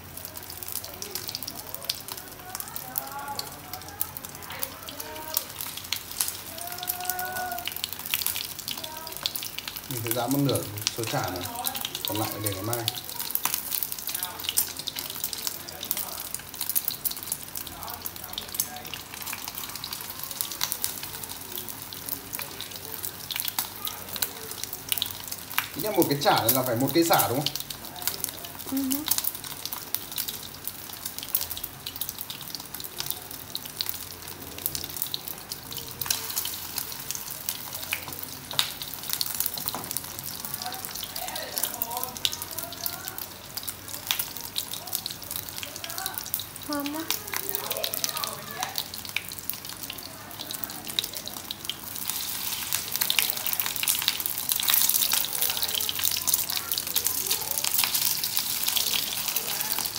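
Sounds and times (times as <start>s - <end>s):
patties sizzling in hot oil: 0.0s - 59.9s.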